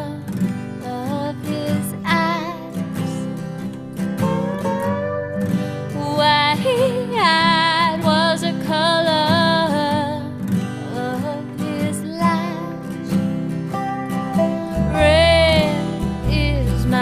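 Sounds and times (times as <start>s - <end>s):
acoustic guitar strummed and plucked: 0.0s - 17.0s
person singing: 0.8s - 3.2s, 4.2s - 13.1s, 13.8s - 17.0s.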